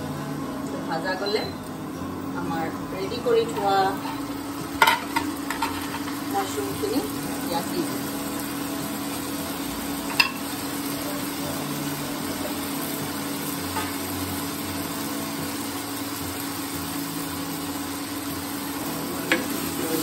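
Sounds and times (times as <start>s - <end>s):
masala sizzling in a pan: 0.0s - 20.0s.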